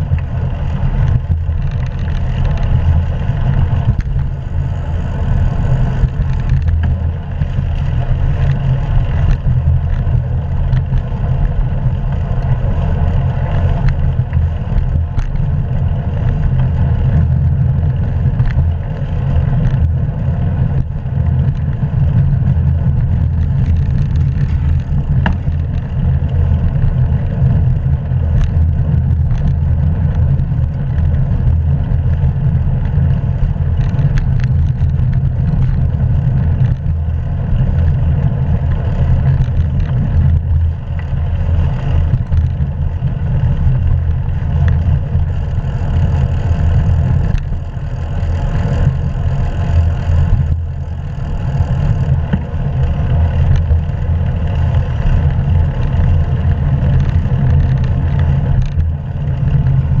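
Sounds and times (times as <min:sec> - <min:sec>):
wind and road noise rumble: 0:00.0 - 1:00.0.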